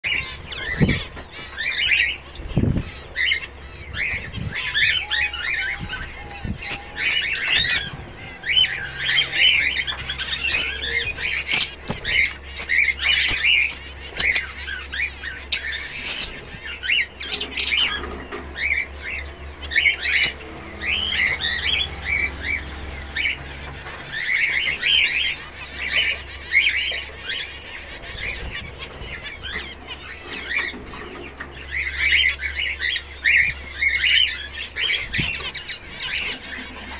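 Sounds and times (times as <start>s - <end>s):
finches chirping: 0.0s - 36.9s.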